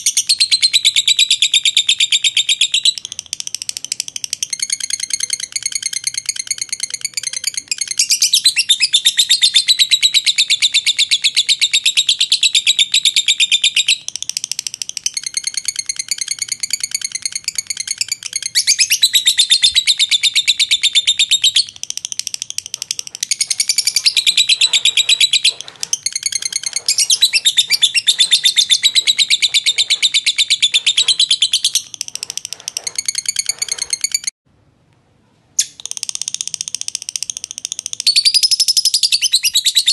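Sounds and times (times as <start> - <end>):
lovebird chattering trill: 0.0 - 34.3, 35.6 - 39.9.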